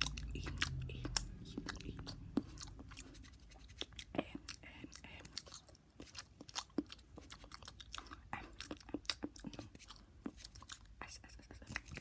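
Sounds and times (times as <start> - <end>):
wet mouth clicks and smacks: 0.0 - 10.9.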